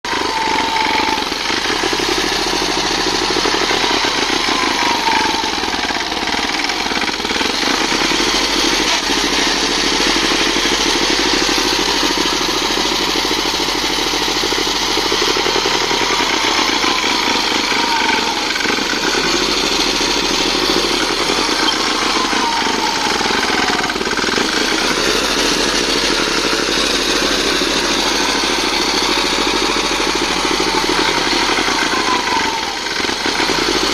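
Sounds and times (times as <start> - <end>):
tractor engine chugging: 0.0 - 33.9.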